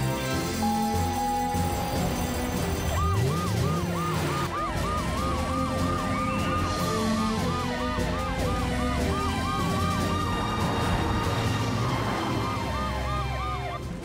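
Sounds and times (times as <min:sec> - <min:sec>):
fast cartoon siren: 0:00.6 - 0:14.0
slow siren wail: 0:00.6 - 0:14.0.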